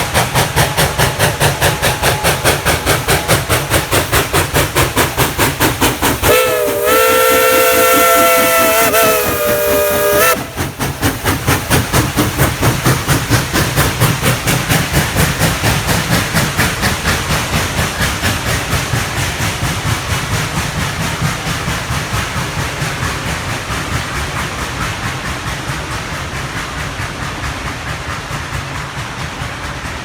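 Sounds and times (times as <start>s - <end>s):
steam locomotive chuffing: 0.0s - 30.0s
train rumble: 0.0s - 30.0s.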